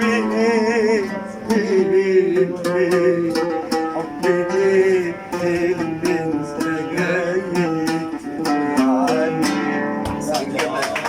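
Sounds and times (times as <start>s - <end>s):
person singing: 0.0s - 10.6s
live arabic-style music with singing: 0.0s - 11.0s.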